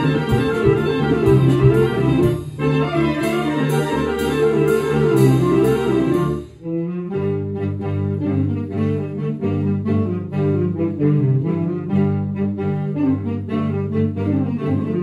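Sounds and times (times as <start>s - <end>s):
saxophone ensemble playing: 0.0s - 15.0s.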